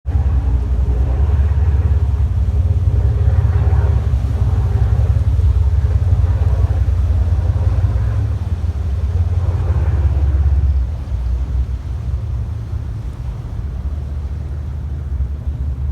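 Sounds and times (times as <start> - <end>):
boat engine rumble: 0.0 - 15.9.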